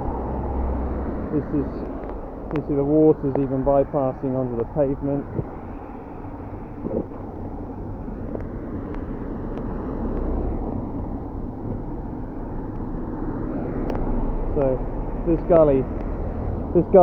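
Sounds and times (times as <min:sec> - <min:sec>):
vehicle passing on wet road: 0:00.0 - 0:06.7, 0:07.4 - 0:16.7.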